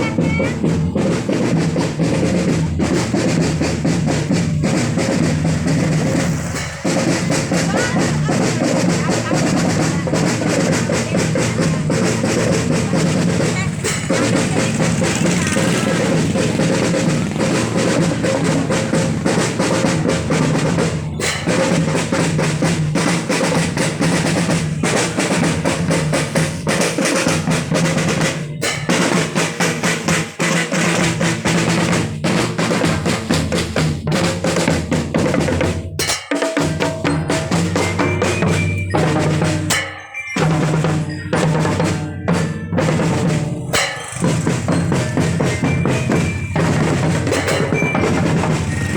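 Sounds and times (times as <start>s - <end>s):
bass drums beating: 0.0s - 48.9s
snare drums: 0.0s - 48.9s.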